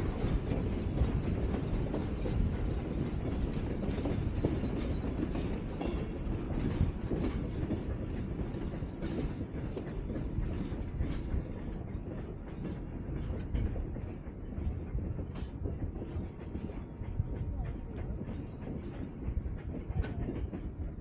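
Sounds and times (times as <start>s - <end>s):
train cars rumbling on track: 0.0s - 21.0s
wheels clicking over rail joints: 0.0s - 21.0s.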